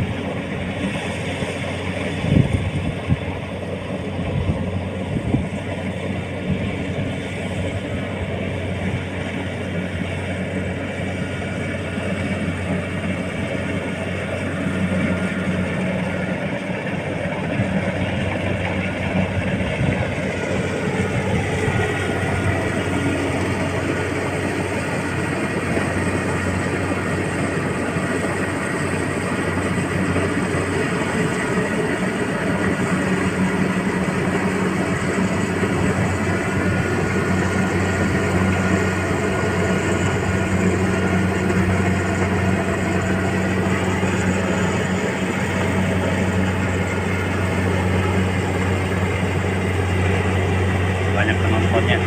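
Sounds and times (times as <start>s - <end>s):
combine harvester machinery hum: 0.0s - 52.0s.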